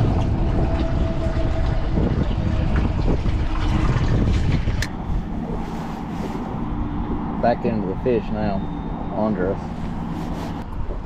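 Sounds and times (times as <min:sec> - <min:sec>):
outboard motor running: 0:00.0 - 0:11.0
wind rumble on microphone: 0:00.0 - 0:11.0.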